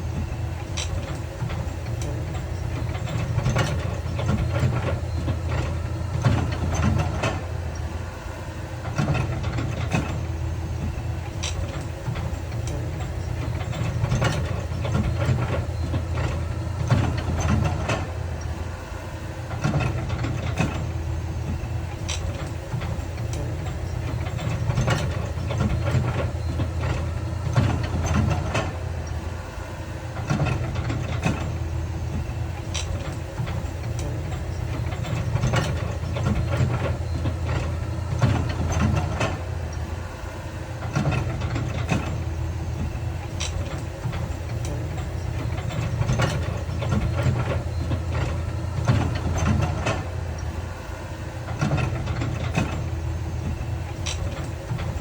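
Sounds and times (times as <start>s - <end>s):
heavy machinery rumbling: 0.0s - 55.0s.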